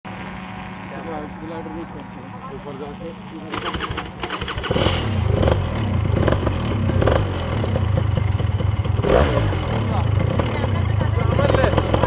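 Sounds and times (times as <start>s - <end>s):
engine running loudly: 0.1s - 12.0s.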